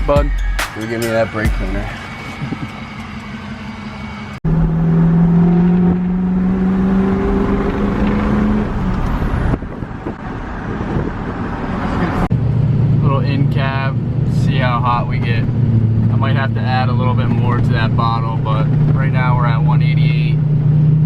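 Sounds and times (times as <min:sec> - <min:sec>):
diesel engine droning: 0:00.7 - 0:21.0.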